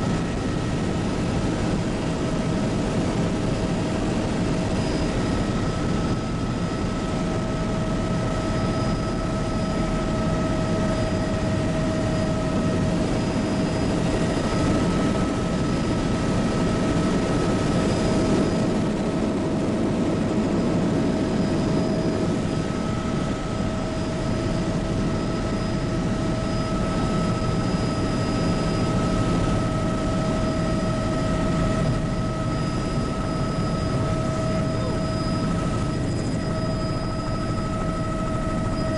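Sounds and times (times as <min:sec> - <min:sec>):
helicopter rotor and turbine drone: 0:00.0 - 0:38.9
steady high whine: 0:00.0 - 0:38.9.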